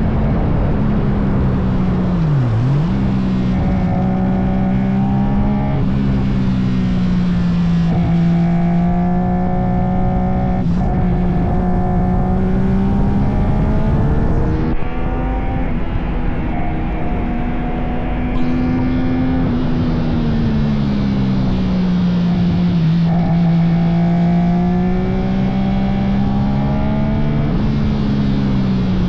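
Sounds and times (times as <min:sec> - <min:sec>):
gear changes: 0:00.0 - 0:29.0
motorcycle engine running hard: 0:00.0 - 0:29.0.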